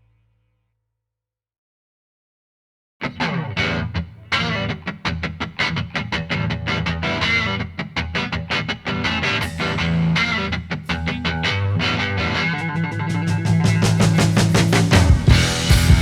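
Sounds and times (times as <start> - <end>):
rock music with electric guitar: 3.0 - 16.0.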